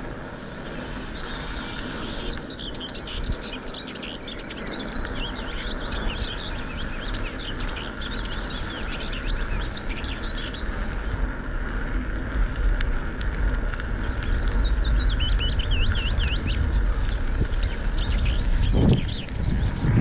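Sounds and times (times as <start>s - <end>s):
bicycle tyres rolling: 0.0s - 20.0s
birds chirping rapidly: 0.4s - 11.4s, 13.4s - 20.0s.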